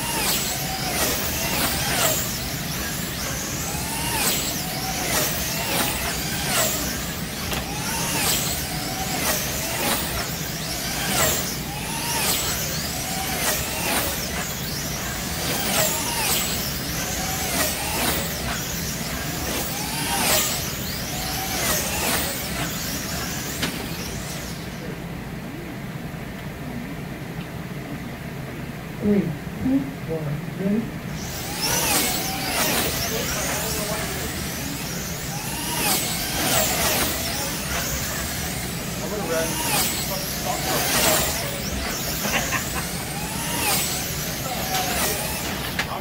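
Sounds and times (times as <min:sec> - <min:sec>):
slot car motors whining past: 0:00.0 - 0:25.7, 0:31.0 - 0:46.0.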